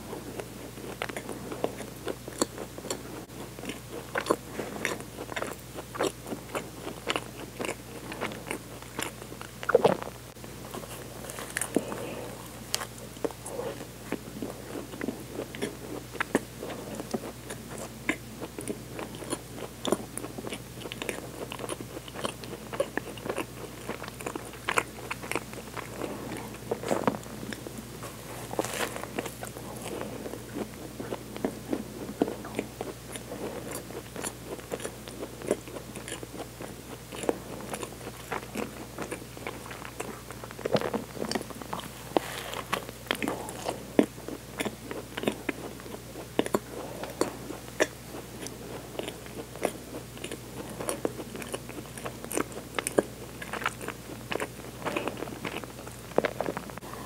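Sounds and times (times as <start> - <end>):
crunching pastry while chewing: 0.0 - 57.0.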